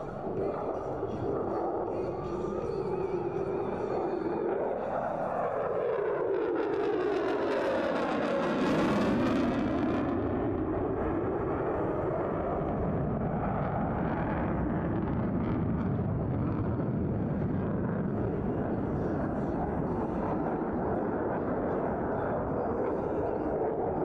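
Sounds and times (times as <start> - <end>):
deep jet rumble: 0.0 - 24.0.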